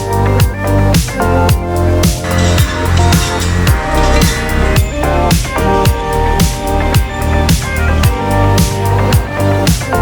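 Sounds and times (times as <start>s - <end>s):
bass and guitar chords: 0.0s - 10.0s
kick drum and hi-hat: 0.0s - 10.0s.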